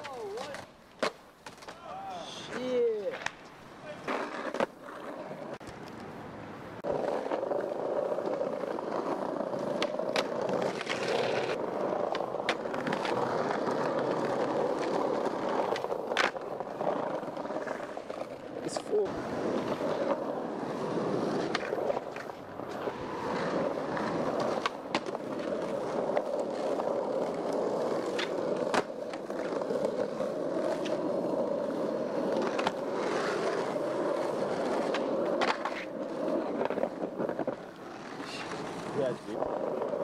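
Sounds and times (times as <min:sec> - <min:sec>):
skateboard clicks and knocks: 0:00.0 - 0:40.0
skateboard wheels rolling on pavement: 0:00.0 - 0:40.0.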